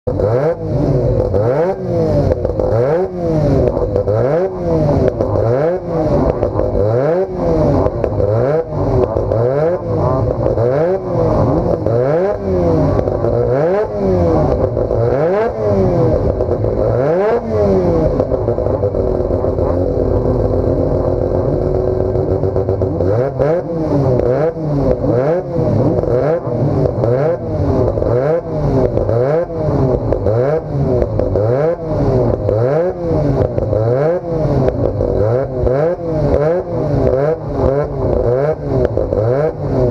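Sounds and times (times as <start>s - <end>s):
rotary engine revving: 0.1s - 39.9s.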